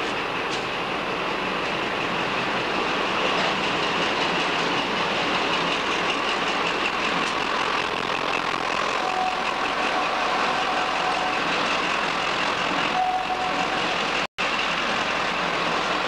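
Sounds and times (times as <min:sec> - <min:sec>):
diesel locomotive engine: 0:00.0 - 0:16.0
rail wheel noise: 0:00.0 - 0:16.0.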